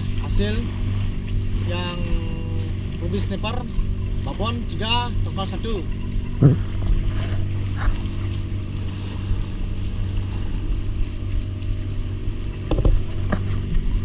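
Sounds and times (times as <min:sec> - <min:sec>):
boat engine droning: 0:00.0 - 0:14.0
water noise: 0:00.0 - 0:14.0
wind: 0:00.0 - 0:14.0.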